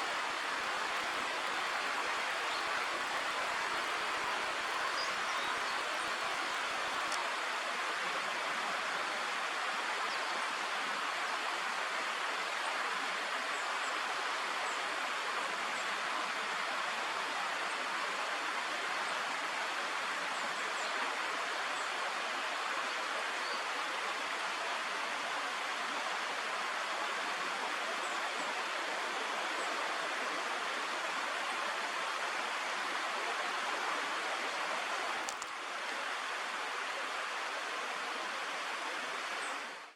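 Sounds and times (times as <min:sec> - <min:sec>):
water rushing in a stream: 0:00.0 - 0:20.5, 0:24.2 - 0:39.9.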